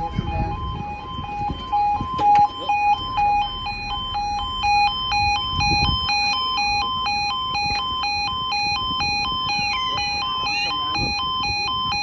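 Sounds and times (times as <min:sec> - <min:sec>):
level crossing alarm two-tone: 0:00.0 - 0:12.0.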